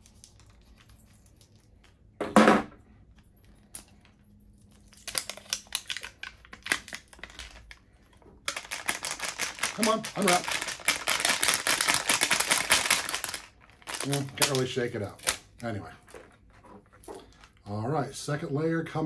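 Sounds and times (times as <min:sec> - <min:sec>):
plastic wrapper crinkling: 0:00.0 - 0:02.0, 0:03.8 - 0:17.7.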